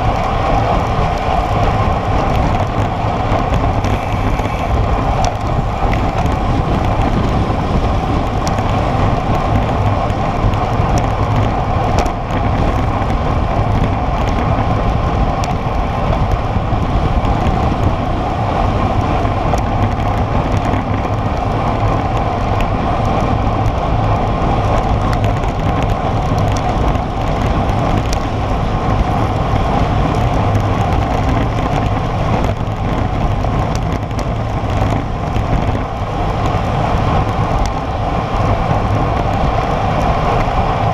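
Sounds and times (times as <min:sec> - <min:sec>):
bike tyres humming on asphalt: 0:00.0 - 0:40.9
wind rushing over microphone: 0:00.0 - 0:40.9.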